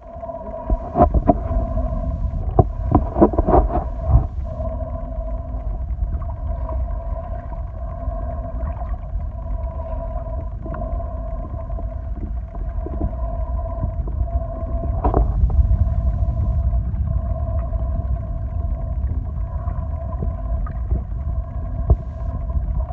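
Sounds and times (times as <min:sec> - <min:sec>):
steady hum: 0:00.0 - 0:22.9
underwater water rumble: 0:00.0 - 0:22.9.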